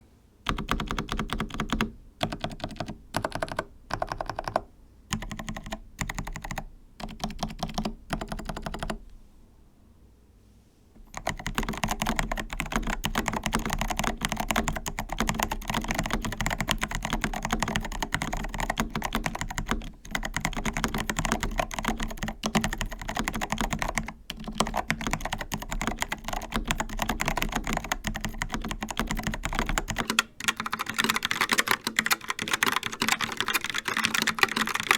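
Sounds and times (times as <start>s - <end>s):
mechanical keyboard typing: 0.5s - 9.0s, 11.1s - 34.9s.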